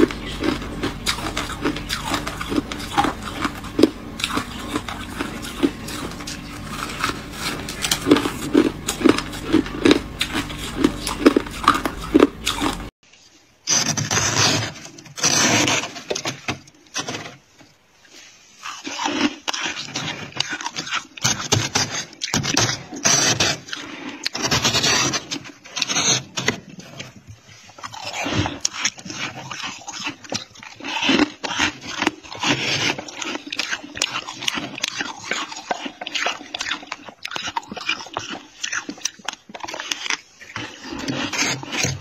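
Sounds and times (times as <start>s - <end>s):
fingers scraping freezer frost: 0.0s - 12.9s, 13.7s - 17.4s, 18.5s - 42.0s
ice being chewed: 0.0s - 12.9s, 18.0s - 42.0s.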